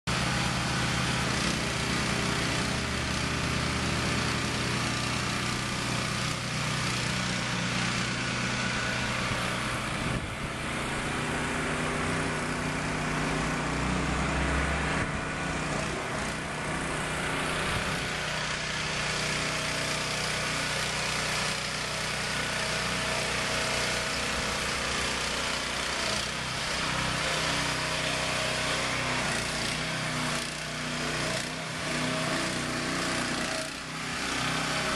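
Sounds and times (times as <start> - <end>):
truck engine running: 0.1 - 34.9.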